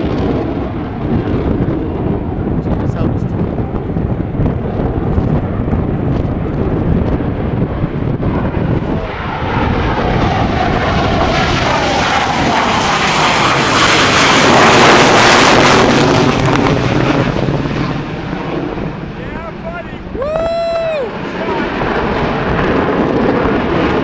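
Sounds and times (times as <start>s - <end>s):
jet engines taking off: 0.0s - 24.0s.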